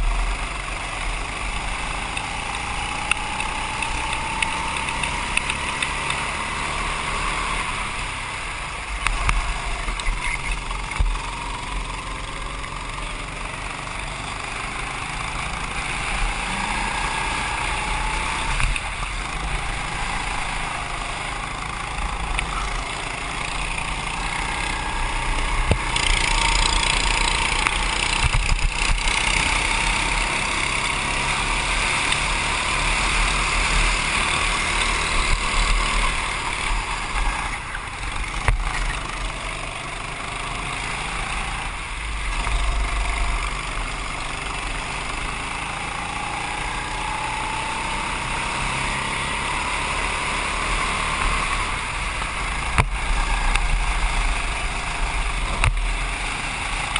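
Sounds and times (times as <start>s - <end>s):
go-kart engine revving: 0.0s - 56.9s
road and wind noise: 0.0s - 56.9s.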